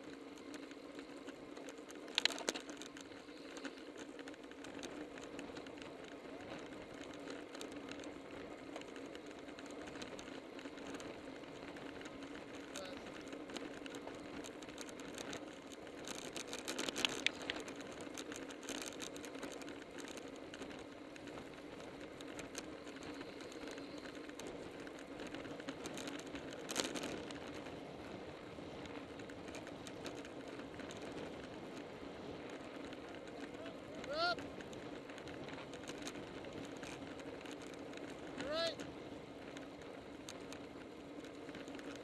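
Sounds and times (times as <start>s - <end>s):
bicycle tyres and air hum: 0.0s - 42.0s.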